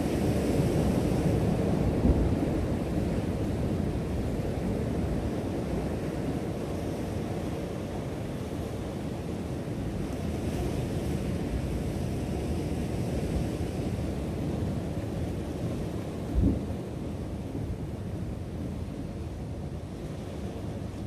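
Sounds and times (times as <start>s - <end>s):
ocean surf over rocks: 0.0s - 21.0s.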